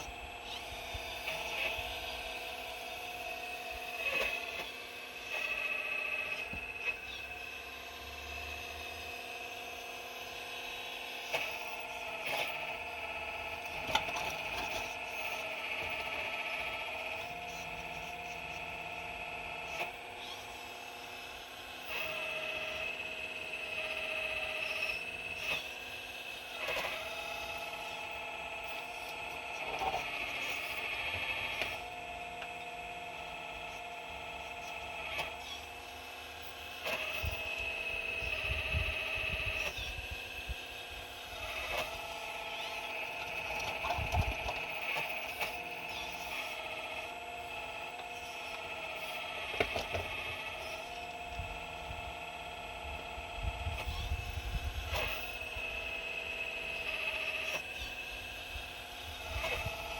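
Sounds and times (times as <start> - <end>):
excavator motors whining: 0.0 - 59.9.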